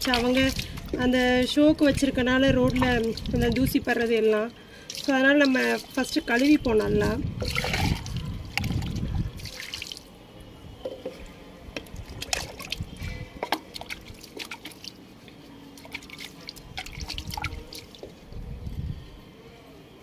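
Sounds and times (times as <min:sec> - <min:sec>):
water drips and splashes: 0:00.0 - 0:10.1, 0:11.7 - 0:18.2
water pouring over clay pot: 0:00.0 - 0:10.1, 0:11.8 - 0:18.2.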